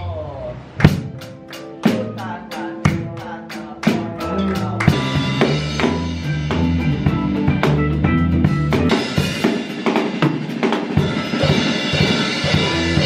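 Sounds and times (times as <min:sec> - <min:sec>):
bass and electric guitar: 0:00.0 - 0:13.0
drum hits: 0:00.8 - 0:02.2, 0:02.9 - 0:13.0.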